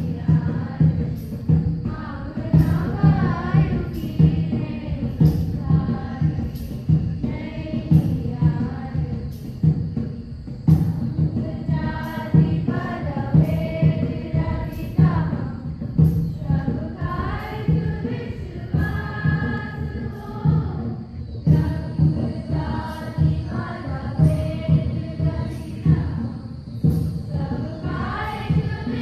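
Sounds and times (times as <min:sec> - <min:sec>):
group singing in chorus: 0:00.0 - 0:29.0
steady drum beat: 0:00.0 - 0:29.0.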